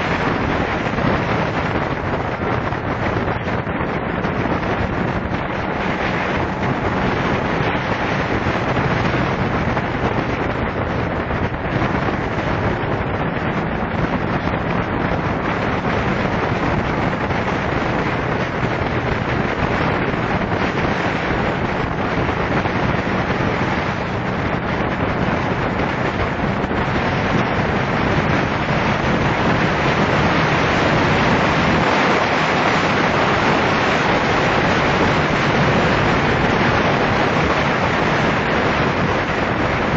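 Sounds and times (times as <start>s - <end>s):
motorcycle engine humming low: 0.0s - 39.9s
wind buffeting microphone: 0.0s - 39.9s.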